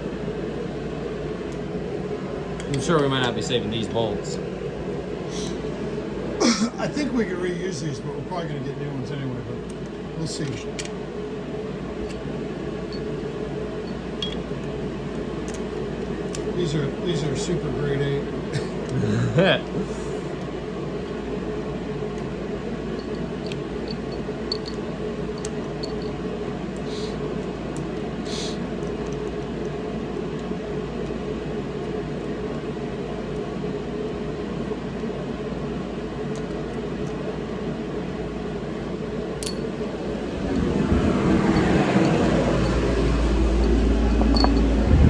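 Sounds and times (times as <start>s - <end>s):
steady background hum: 0.0s - 45.0s.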